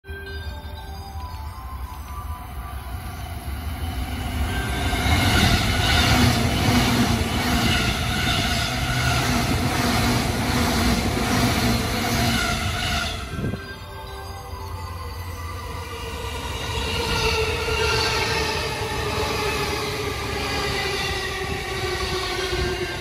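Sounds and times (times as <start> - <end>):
electric train passing: 0.1 - 23.0.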